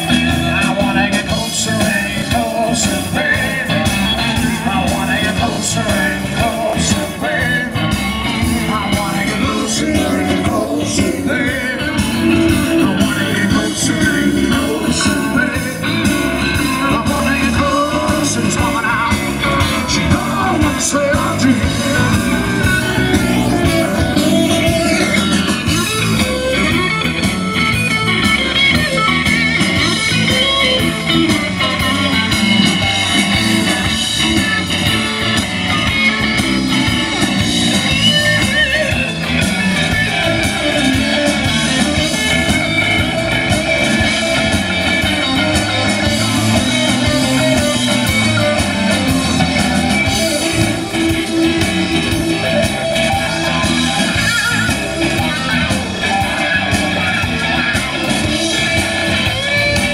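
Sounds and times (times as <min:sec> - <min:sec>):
drums: 0:00.0 - 0:59.9
electric bass: 0:00.0 - 0:59.9
electric guitars: 0:00.0 - 0:59.9.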